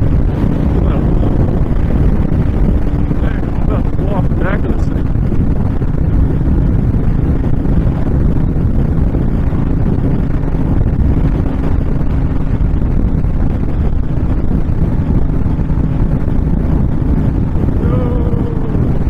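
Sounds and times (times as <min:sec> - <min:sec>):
motorcycle engine droning: 0:00.0 - 0:19.0
wind rushing over microphone: 0:00.0 - 0:19.0.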